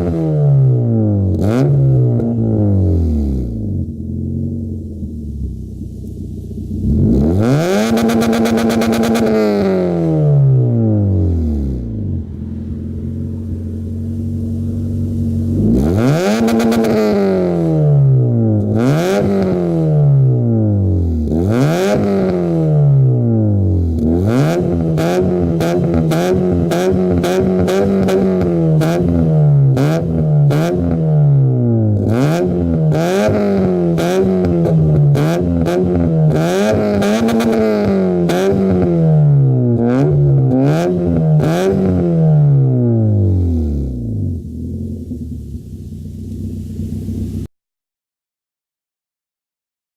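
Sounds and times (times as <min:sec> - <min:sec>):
car engine revving: 0:00.0 - 0:47.5
exhaust crackles: 0:00.7 - 0:47.5.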